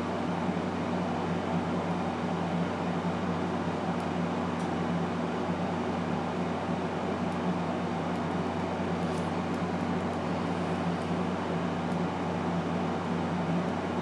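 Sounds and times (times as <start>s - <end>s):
machine hum with hiss: 0.0s - 14.0s.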